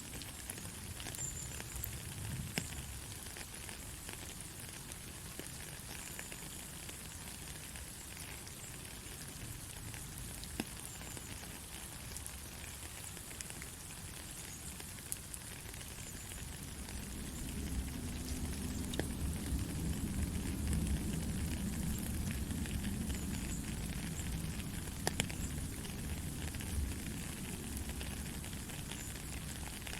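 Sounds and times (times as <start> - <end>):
rain falling in forest: 0.0 - 29.9.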